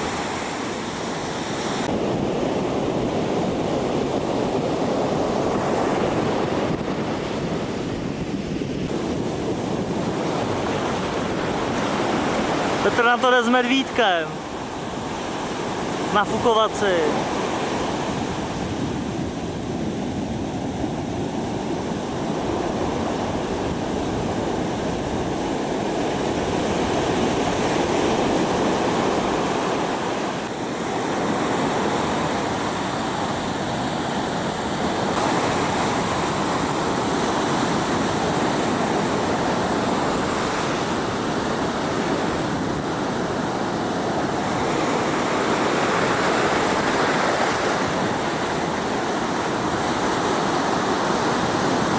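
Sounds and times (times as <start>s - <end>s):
ocean surf breaking on beach: 0.0s - 51.9s.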